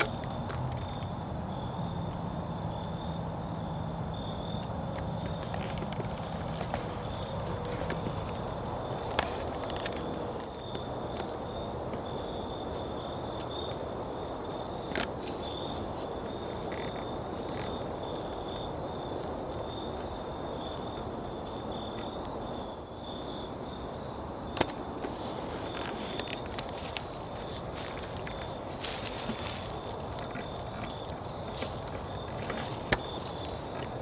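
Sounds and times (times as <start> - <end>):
night insects trilling: 0.0 - 34.0.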